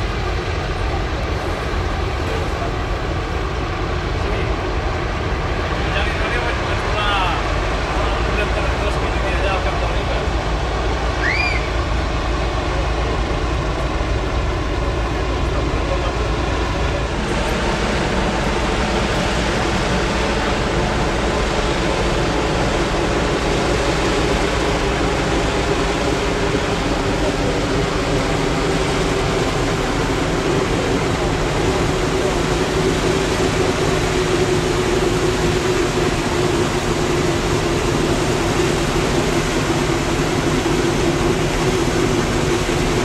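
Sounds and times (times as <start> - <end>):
propeller aircraft engines droning: 0.0 - 43.0.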